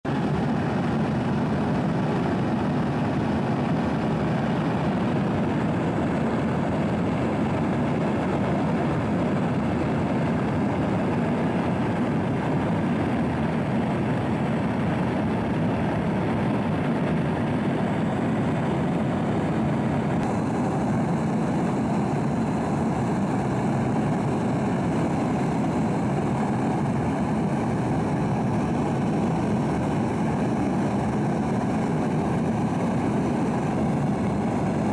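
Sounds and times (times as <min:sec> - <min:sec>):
aircraft engine and airflow drone: 0:00.0 - 0:34.9.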